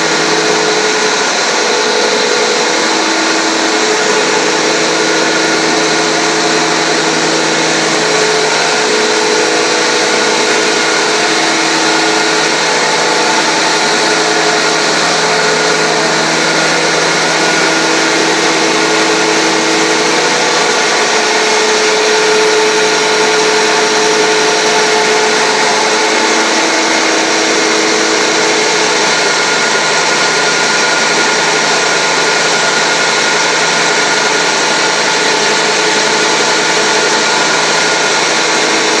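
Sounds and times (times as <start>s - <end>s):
grinder machine running: 0.0s - 39.0s
steady hum: 0.0s - 39.0s.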